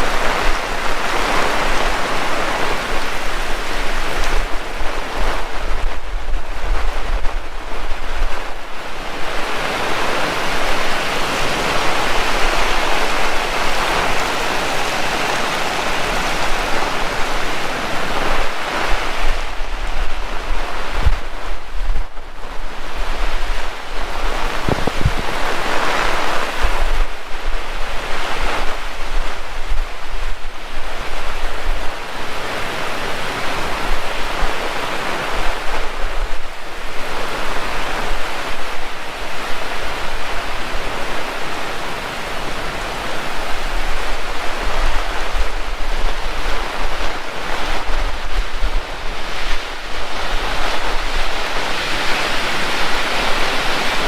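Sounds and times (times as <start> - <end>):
heavy rain pouring: 0.0 - 54.0
wind buffeting microphone: 0.0 - 54.0.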